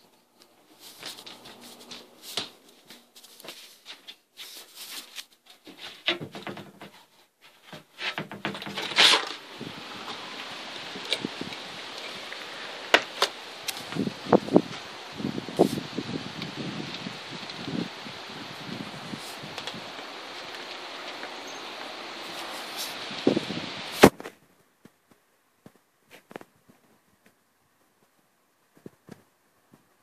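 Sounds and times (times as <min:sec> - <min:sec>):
rustling leaves: 0:00.0 - 0:24.7
wind: 0:00.0 - 0:30.0.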